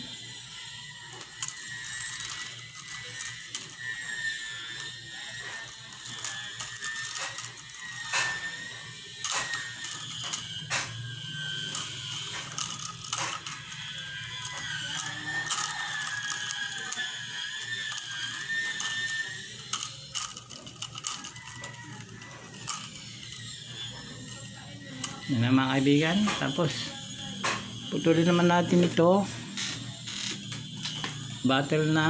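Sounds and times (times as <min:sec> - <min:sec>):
plastic strips crackling and clicking: 0:00.0 - 0:26.8, 0:27.4 - 0:31.2.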